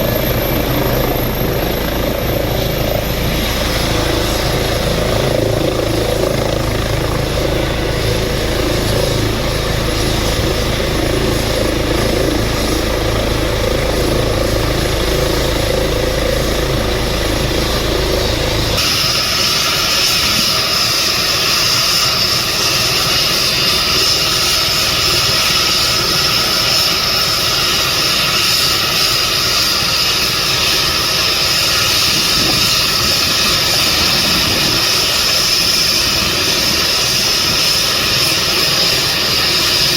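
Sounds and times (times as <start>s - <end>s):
helicopter rotor and engine: 0.0s - 39.9s
high turbine whine: 0.0s - 39.9s.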